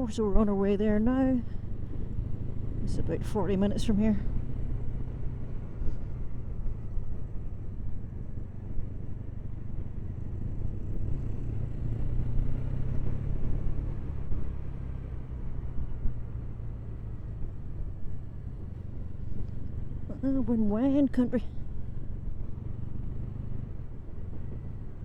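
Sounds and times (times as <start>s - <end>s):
motorcycle engine drone: 0.0s - 25.0s
wind rumble on microphone: 0.0s - 25.0s.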